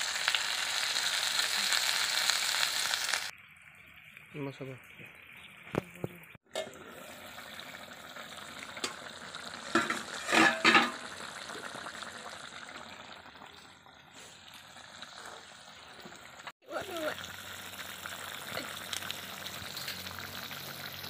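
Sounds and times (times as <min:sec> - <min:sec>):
curry simmering and sizzling: 0:00.0 - 0:21.0.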